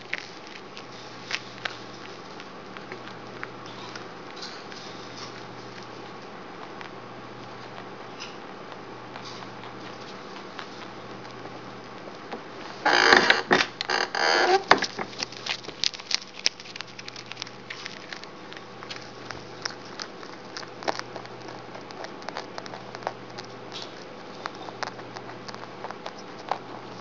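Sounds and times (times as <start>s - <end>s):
rabbit crunching popcorn: 0.0s - 27.0s.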